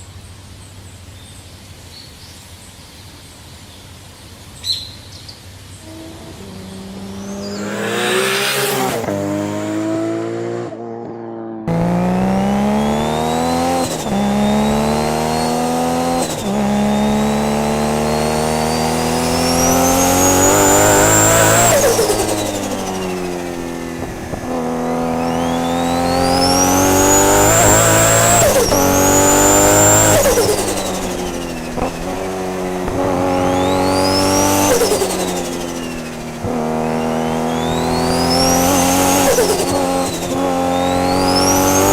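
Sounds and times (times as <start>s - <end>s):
car engine revving hard: 5.8s - 41.9s.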